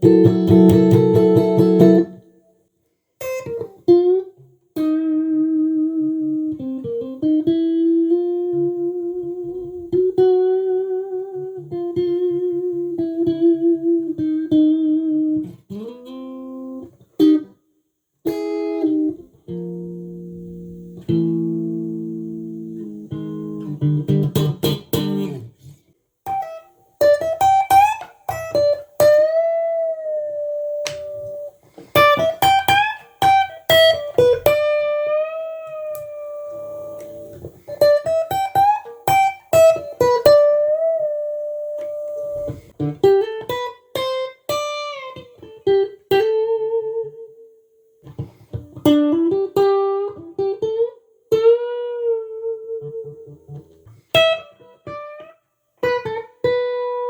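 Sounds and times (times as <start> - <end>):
electric guitar playing: 0.0 - 2.4, 3.2 - 17.6, 18.2 - 57.0.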